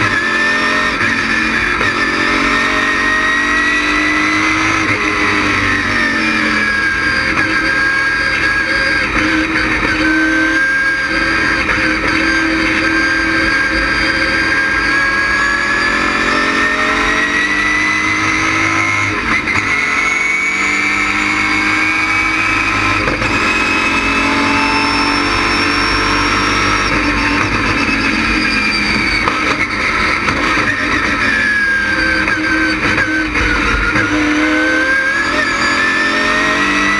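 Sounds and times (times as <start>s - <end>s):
race car engine under load: 0.0s - 36.9s.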